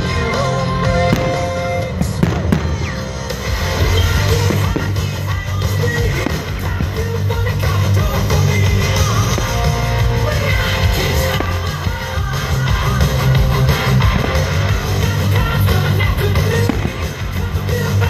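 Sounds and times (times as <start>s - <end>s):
loud rock music: 0.0s - 18.0s.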